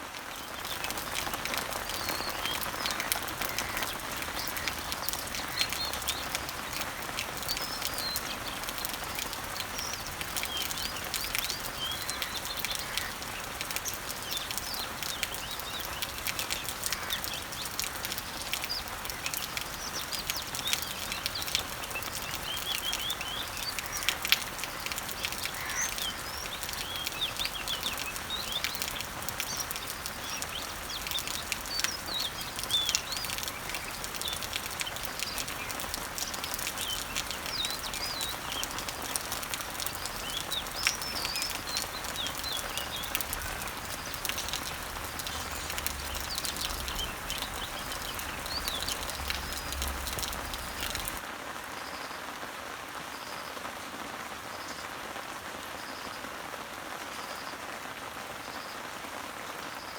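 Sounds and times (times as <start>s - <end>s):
small birds chirping: 0.0s - 51.2s
rain pattering on leaves: 0.0s - 59.9s.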